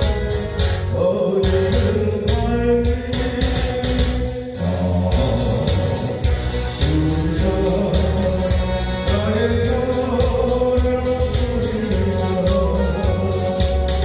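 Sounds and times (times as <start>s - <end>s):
polka-style pop song: 0.0s - 14.0s.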